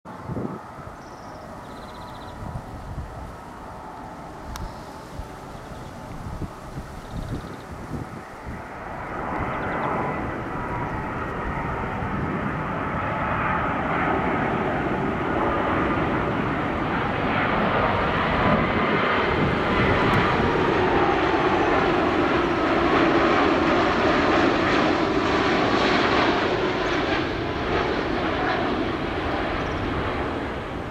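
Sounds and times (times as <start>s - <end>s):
jet airliner flying past: 0.1s - 30.9s.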